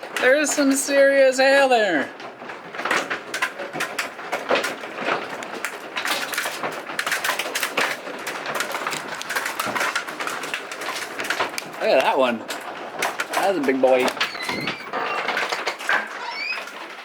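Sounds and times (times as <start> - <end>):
hailstones striking hard surfaces: 0.0 - 17.0.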